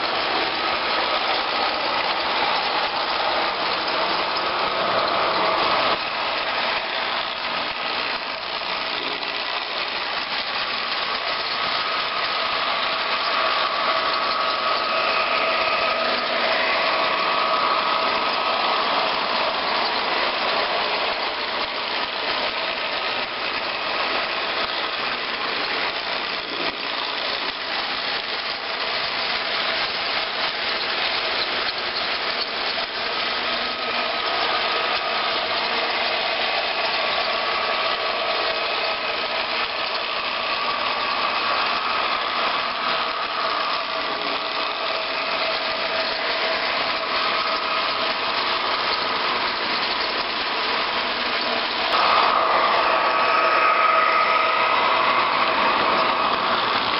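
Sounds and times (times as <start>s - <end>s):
train engine running: 0.0s - 56.9s.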